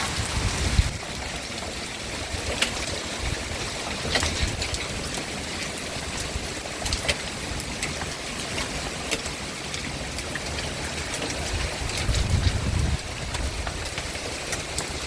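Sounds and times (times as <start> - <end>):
hailstones ticking on hard surfaces: 0.0 - 15.0
hailstorm hiss: 0.0 - 15.0.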